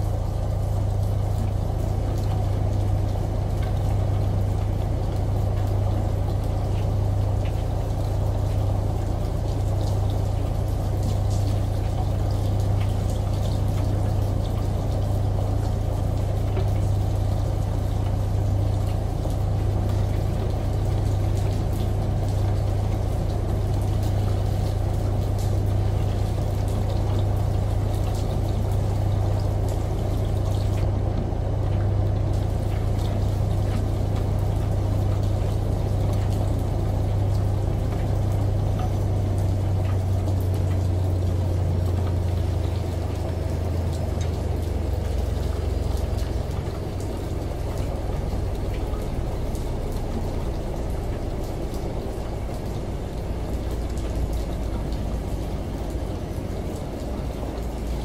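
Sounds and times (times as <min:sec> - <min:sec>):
rain falling: 0:00.0 - 0:58.0
shower water running: 0:00.0 - 0:58.0
washing machine humming: 0:00.0 - 0:58.0.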